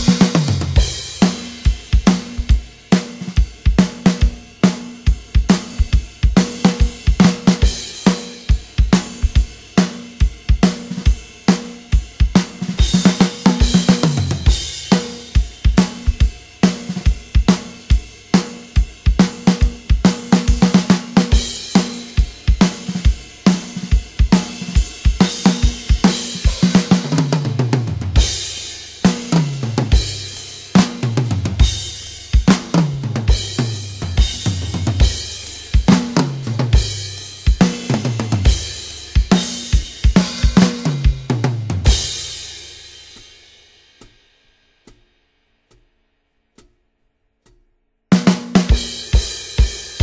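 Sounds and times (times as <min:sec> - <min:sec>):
drum-kit beat: 0:00.0 - 0:46.0, 0:47.5 - 0:50.0.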